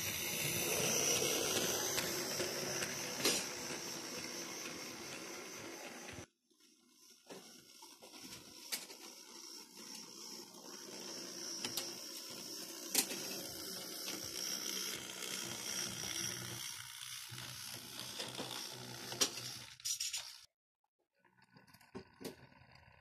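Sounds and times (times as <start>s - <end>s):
model train motor whirring: 0.0s - 20.5s.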